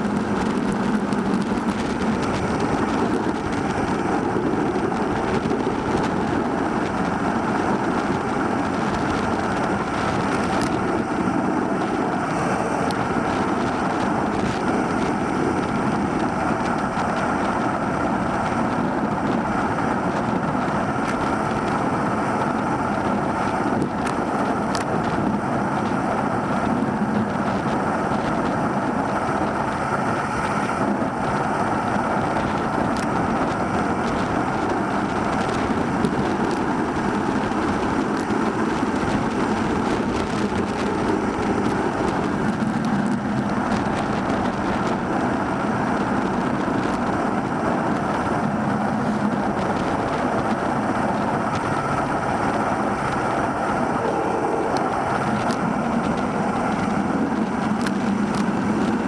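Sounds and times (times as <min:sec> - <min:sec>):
bicycle road noise: 0:00.0 - 0:59.0
wind rushing over microphone: 0:00.0 - 0:59.0.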